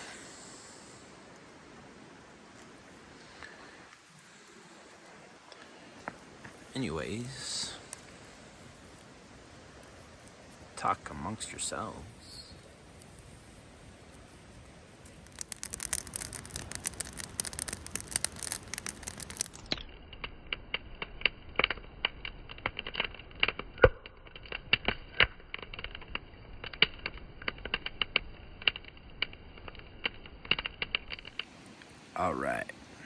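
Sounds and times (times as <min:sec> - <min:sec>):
wood fire crackling: 0:00.2 - 0:32.7.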